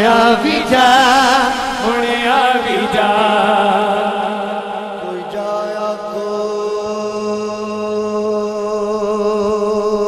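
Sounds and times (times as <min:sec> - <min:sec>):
voices chanting a drone: 0:00.0 - 0:10.0.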